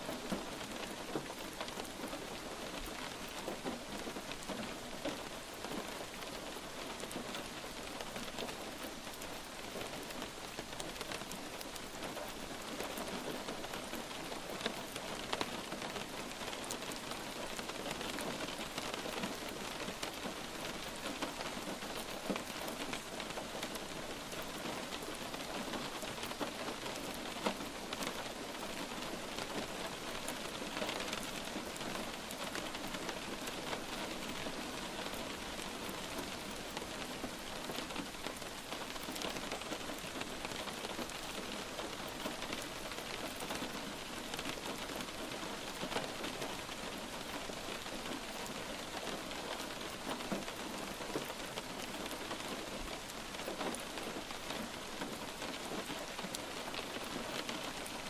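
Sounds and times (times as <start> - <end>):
light rain falling: 0.0 - 58.0
raindrops ticking: 0.0 - 58.0.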